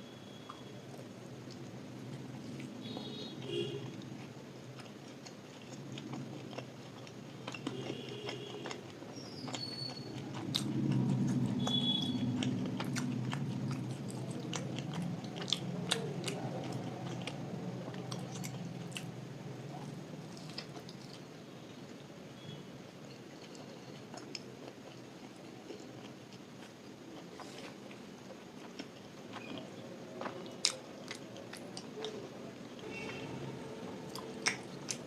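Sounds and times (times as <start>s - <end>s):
person chewing food: 1.0s - 21.3s, 23.1s - 33.3s, 34.1s - 35.0s.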